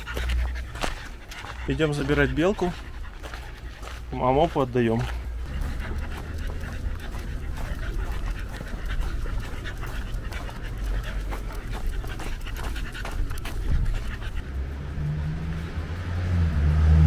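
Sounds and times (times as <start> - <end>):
dog panting: 0.0 - 15.8
steady low hum: 0.0 - 16.8.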